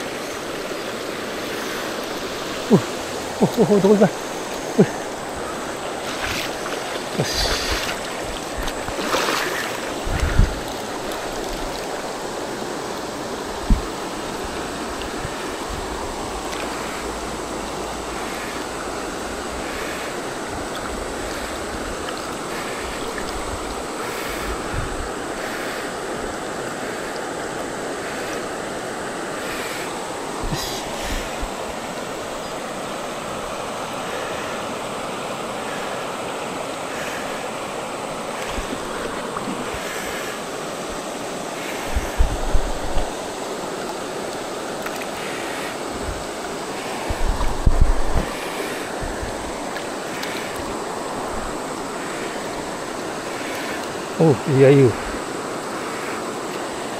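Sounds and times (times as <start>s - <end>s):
river rushing over stones: 0.0s - 56.9s.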